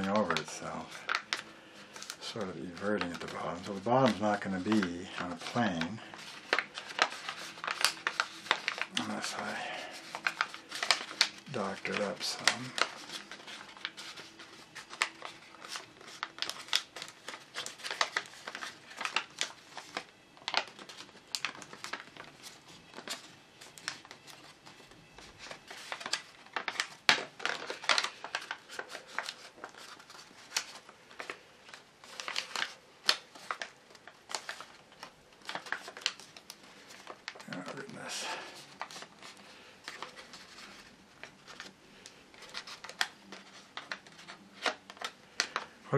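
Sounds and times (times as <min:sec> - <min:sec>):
paper crinkling: 0:00.0 - 0:45.9.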